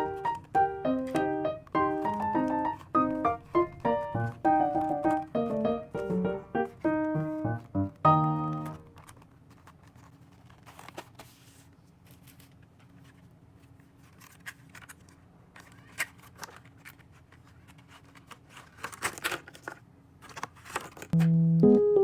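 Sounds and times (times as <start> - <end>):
stationery and packaging handling: 0.0 - 21.4.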